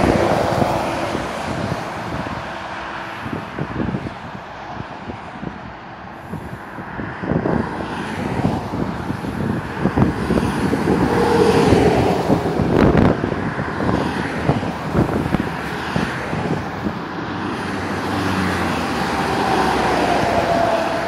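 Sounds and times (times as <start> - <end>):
heavy lorry passing: 0.0 - 21.0
motorway traffic passing: 0.0 - 21.0
wind buffeting microphone: 0.0 - 21.0.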